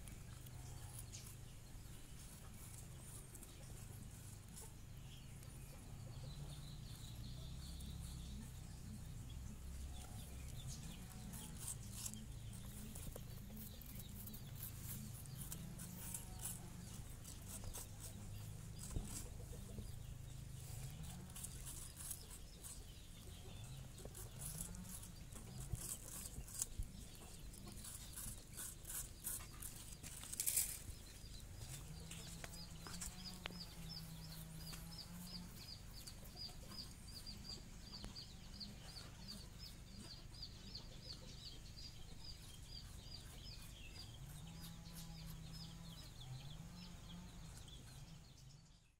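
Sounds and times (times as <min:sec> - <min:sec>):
rabbits crunching apple: 0:00.0 - 0:48.6.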